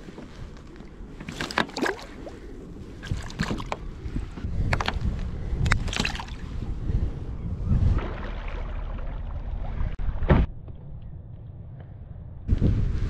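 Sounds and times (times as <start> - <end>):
water splashing around kayak: 0.0 - 10.5
wind rumble on microphone: 0.0 - 13.0.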